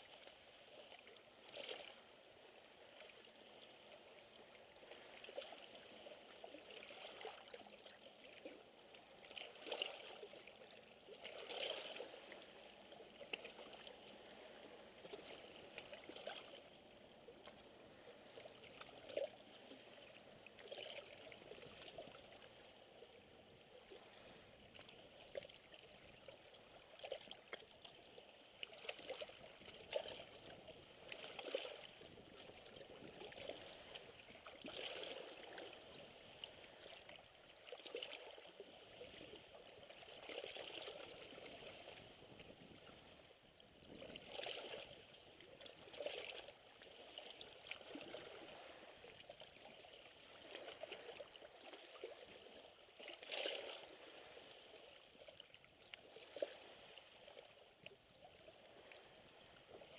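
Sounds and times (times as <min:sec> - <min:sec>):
small waves lapping on rocks: 0:00.0 - 0:59.9.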